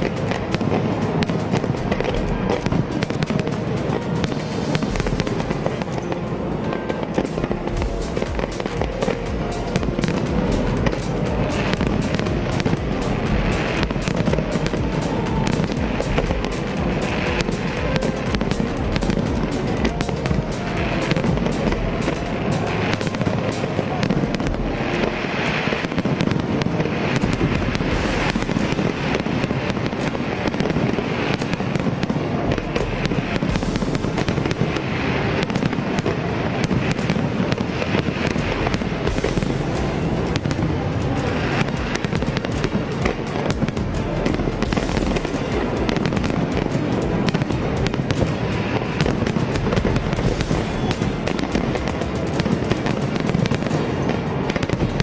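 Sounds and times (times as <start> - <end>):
fireworks crackling: 0.0 - 55.0
music playing: 0.0 - 55.0.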